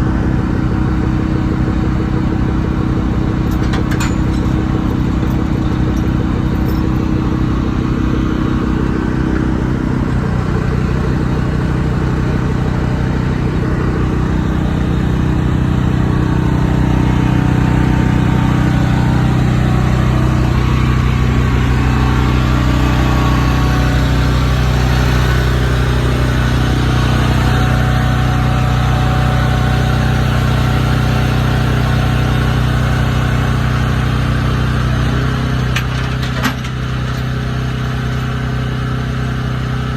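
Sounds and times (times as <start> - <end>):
large truck engine running: 0.0 - 39.9.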